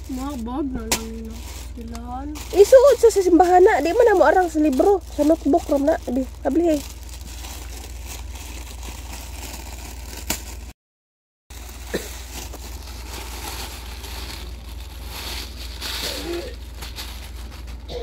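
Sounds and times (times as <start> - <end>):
steady low hum: 0.0 - 10.7, 11.6 - 18.0
plastic packaging crinkling: 0.0 - 10.8, 11.5 - 18.0.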